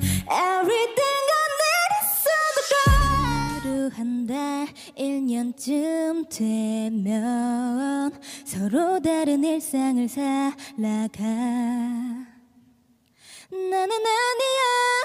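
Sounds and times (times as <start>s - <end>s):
woman singing unaccompanied: 0.2s - 12.4s, 13.5s - 15.0s.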